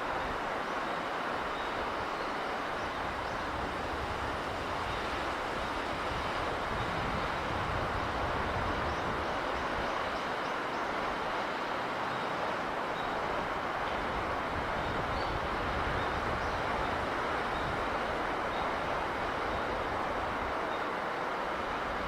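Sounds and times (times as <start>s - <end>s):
sea breeze and sea rushing: 0.0s - 22.0s.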